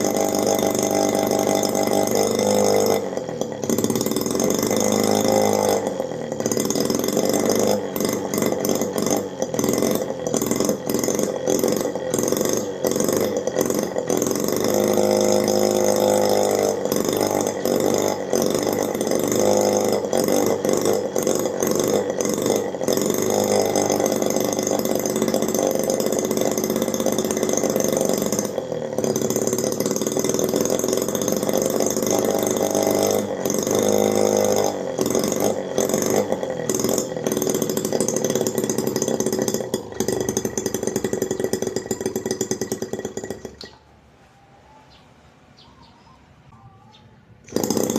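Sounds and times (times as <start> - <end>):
miniature engine buzzing: 0.0 - 43.9, 46.6 - 47.9.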